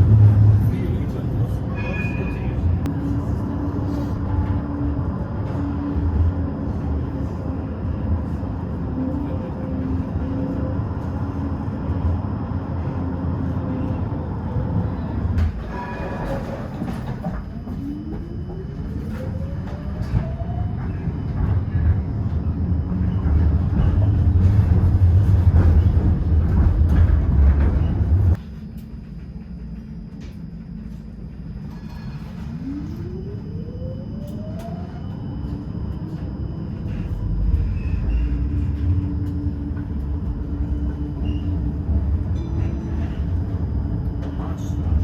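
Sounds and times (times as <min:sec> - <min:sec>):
tram wheels rumbling on track: 0:00.0 - 0:33.0, 0:34.4 - 0:45.0.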